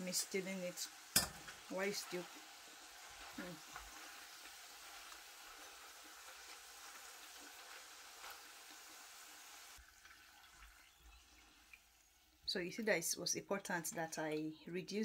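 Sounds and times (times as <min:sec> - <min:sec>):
slices deep-frying in oil: 0:00.0 - 0:14.4.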